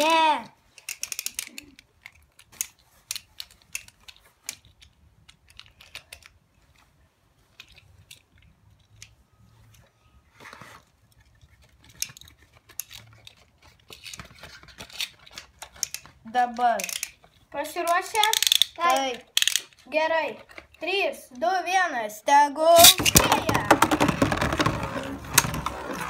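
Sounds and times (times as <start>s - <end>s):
plastic toy tops clicking and rattling: 0.0s - 6.4s, 7.5s - 9.2s, 11.1s - 20.8s, 22.8s - 26.0s.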